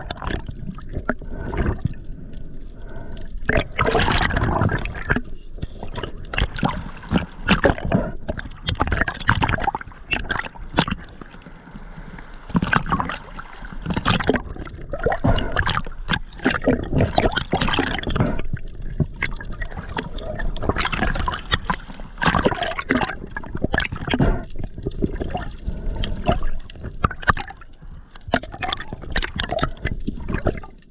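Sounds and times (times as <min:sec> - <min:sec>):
water sloshing and gurgling: 0:00.0 - 0:30.9
water splashes: 0:00.0 - 0:30.9.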